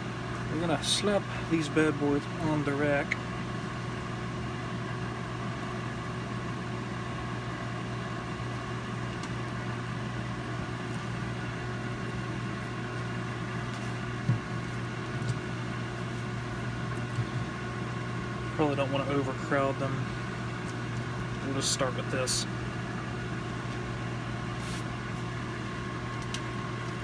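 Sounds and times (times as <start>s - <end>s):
air fryer humming: 0.0s - 27.0s.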